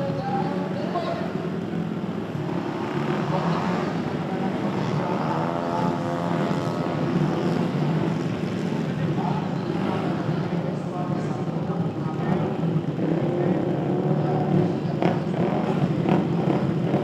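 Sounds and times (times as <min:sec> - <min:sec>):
scooter engines idling and revving: 0:00.0 - 0:17.0.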